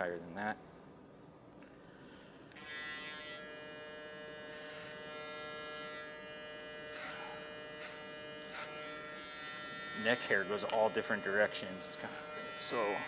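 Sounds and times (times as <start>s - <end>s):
electric hair clippers buzzing: 1.8s - 13.0s.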